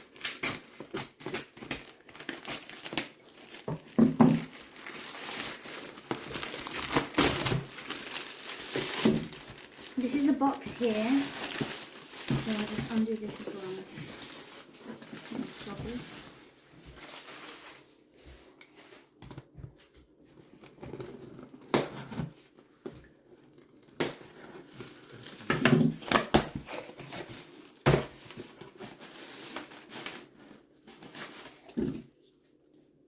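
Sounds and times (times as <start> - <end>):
cardboard packaging crinkling and tearing: 0.0 - 32.4.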